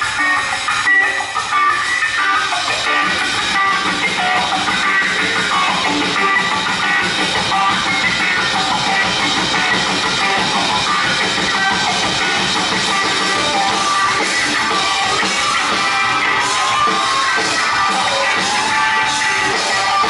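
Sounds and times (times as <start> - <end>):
drum kit: 0.0 - 20.0
electric guitar: 0.0 - 20.0.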